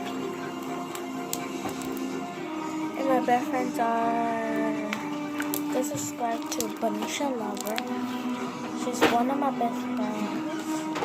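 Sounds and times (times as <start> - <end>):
music from a television: 0.0 - 11.0.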